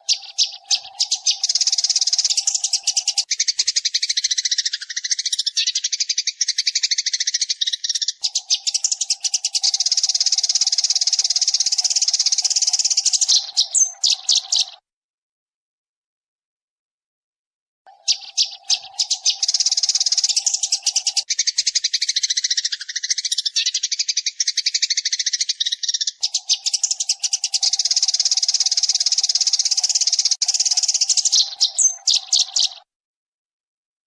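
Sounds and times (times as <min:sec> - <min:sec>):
sparrows chattering: 0:00.0 - 0:14.8, 0:17.9 - 0:32.9.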